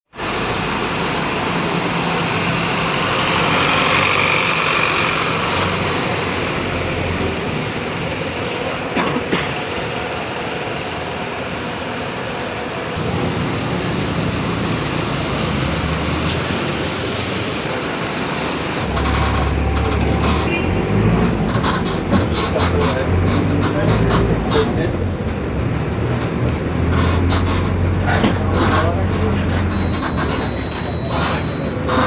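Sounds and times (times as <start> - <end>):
diesel bus engine running: 0.1 - 32.0.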